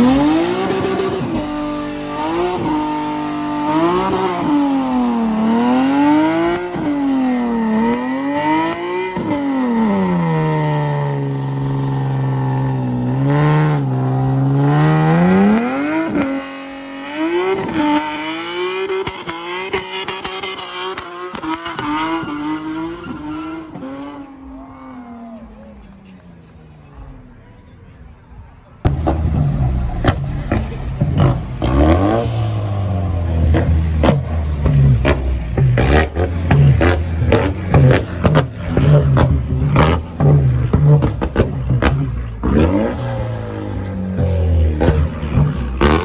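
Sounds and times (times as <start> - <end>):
car engine revving hard: 0.0 - 24.6, 28.9 - 46.0.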